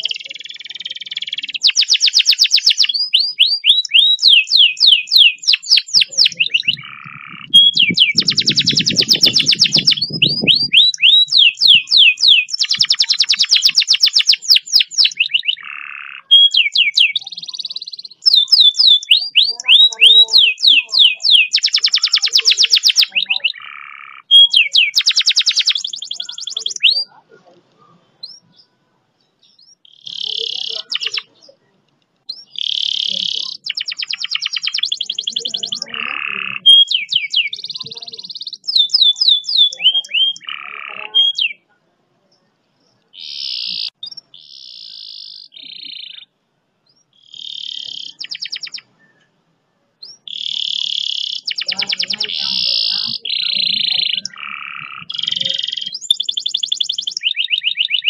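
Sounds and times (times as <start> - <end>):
canary singing trills: 0.0 - 49.4, 50.0 - 58.0.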